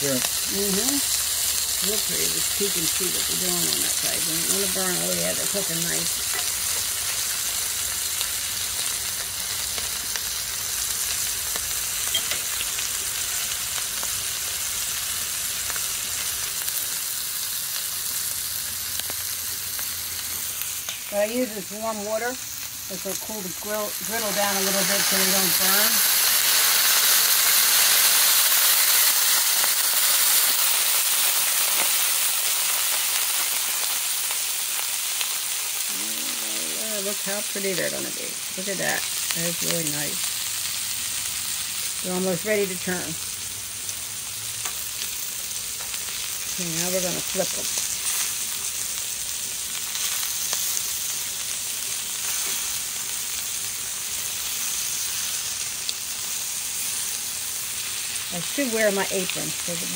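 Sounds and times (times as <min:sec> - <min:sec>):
shrimp sizzling on griddle: 0:00.0 - 0:59.9.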